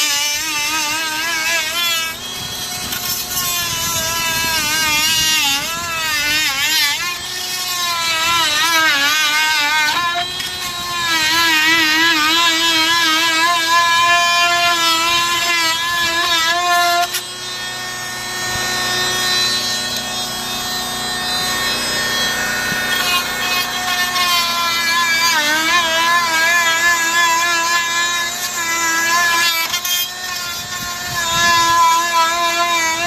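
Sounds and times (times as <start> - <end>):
power tool running under load: 0.0 - 33.0.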